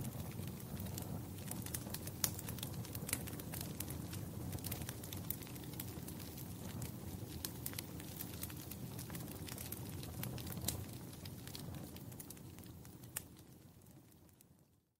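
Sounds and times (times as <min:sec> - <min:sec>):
wood fire crackling: 0:00.0 - 0:14.8.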